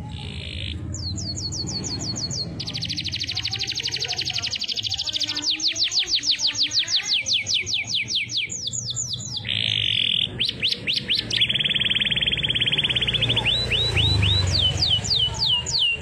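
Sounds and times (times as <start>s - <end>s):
canary singing: 0.0s - 16.0s.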